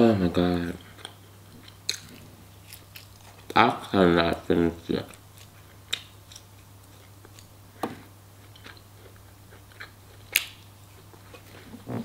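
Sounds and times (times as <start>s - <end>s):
steady low hum: 0.0s - 12.0s
person chewing crispy food: 0.7s - 11.9s.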